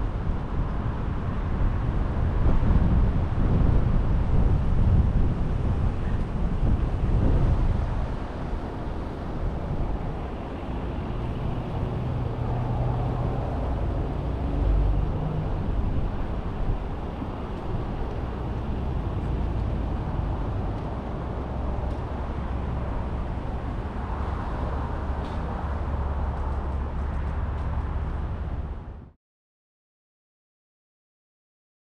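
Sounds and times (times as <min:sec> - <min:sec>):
wind noise: 0:00.0 - 0:29.1
car road and engine rumble: 0:00.0 - 0:29.2.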